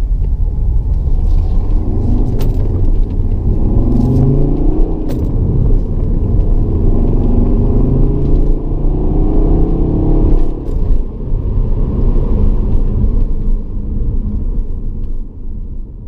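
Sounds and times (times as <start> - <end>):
diesel engine accelerating: 0.2 - 16.0.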